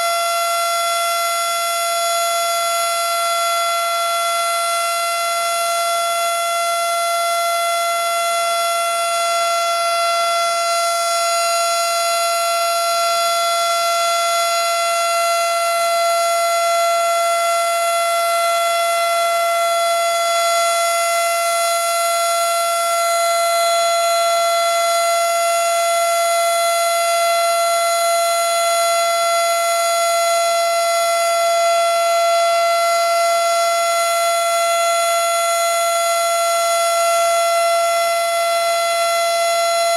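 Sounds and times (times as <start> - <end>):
loud steady warning siren: 0.0 - 39.9.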